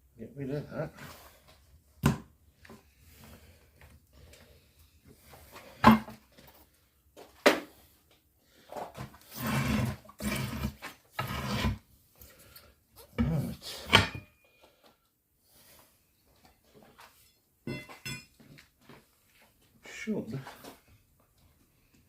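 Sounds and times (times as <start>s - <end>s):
scraping and shuffling: 2.6s - 22.0s.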